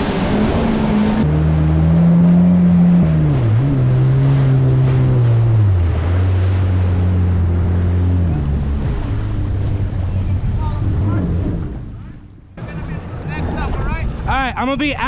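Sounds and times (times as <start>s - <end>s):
jet ski engine running: 0.0s - 15.0s
rushing water: 0.0s - 15.0s
wind: 0.0s - 15.0s.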